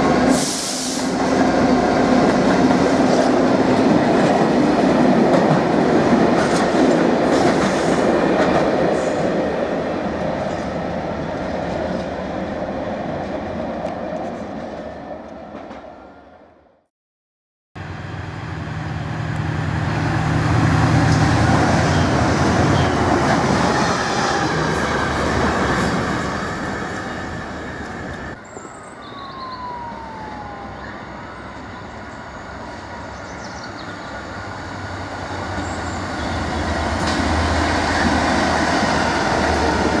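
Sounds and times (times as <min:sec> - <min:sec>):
train wheels on rails: 0:00.0 - 0:16.0, 0:18.1 - 0:28.7, 0:31.4 - 0:40.0
diesel locomotive engine: 0:00.0 - 0:16.2, 0:17.8 - 0:40.0.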